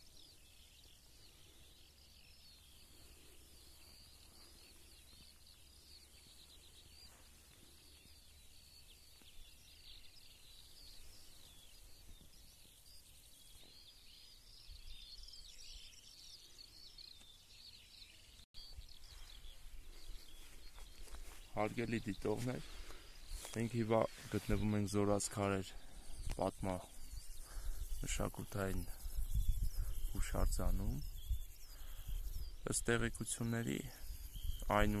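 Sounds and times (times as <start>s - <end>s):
songbirds chirping and warbling: 0.0s - 35.0s.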